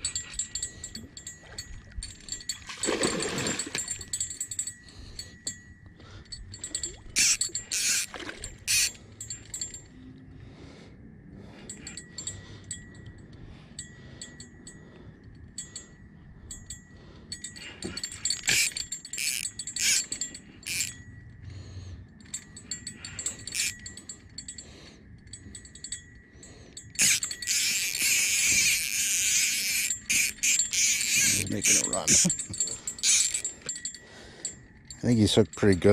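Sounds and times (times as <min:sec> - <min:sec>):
light metallic clinks and jingles: 0:00.0 - 0:10.5, 0:11.3 - 0:35.9.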